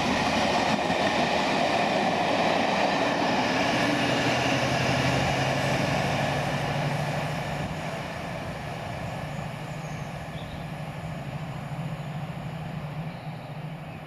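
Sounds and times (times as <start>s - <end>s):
diesel locomotive engine drone: 0.0s - 14.0s
wheel and rail rumble: 0.0s - 14.0s.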